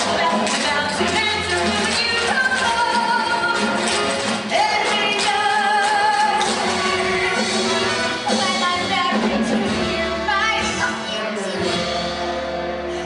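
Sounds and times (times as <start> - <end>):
people singing show tune: 0.0 - 11.1
instrumental accompaniment: 0.0 - 13.0.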